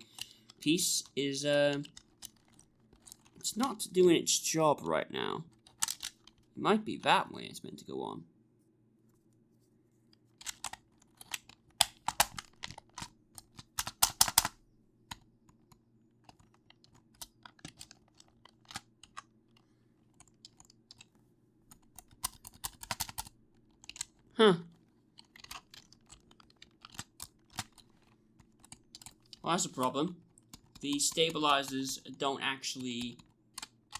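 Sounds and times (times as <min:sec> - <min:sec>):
mechanical keyboard keys clicking: 0:00.0 - 0:04.0, 0:05.5 - 0:06.5, 0:10.4 - 0:21.1, 0:21.7 - 0:33.9.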